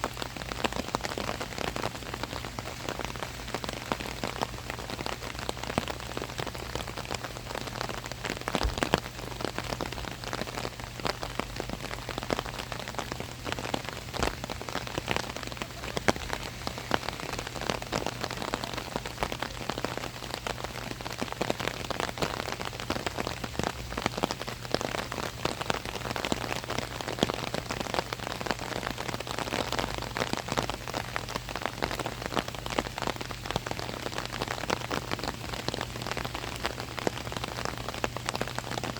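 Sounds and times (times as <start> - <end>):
rain on an umbrella: 0.0 - 38.9.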